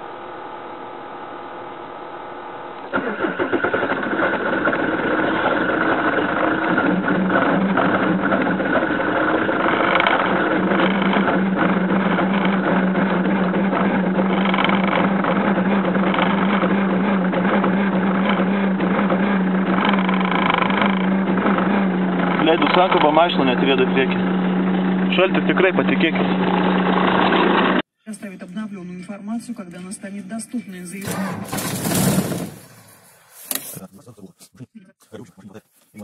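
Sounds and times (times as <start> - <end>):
diesel engine starting and idling: 1.6 - 27.8, 28.7 - 33.3.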